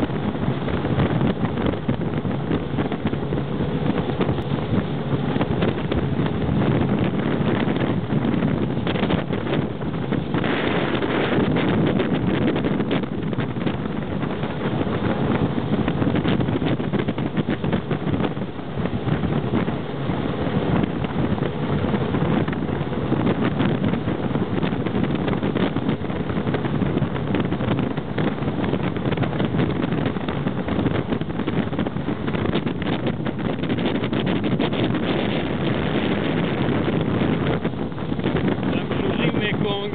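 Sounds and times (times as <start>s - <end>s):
rushing water: 0.0s - 39.9s
speedboat engine drone: 0.0s - 39.9s
wind buffeting microphone: 0.0s - 39.9s.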